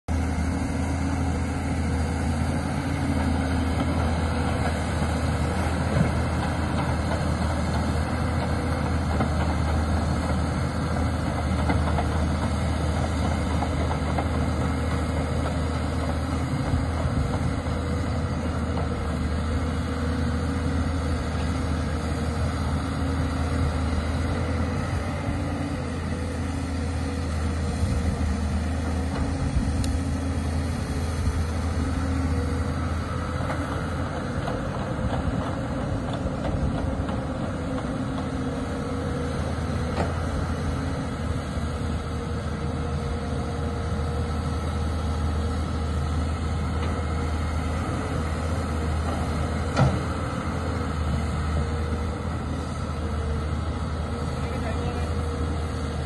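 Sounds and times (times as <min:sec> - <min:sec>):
diesel excavator engine humming: 0:00.0 - 0:56.0.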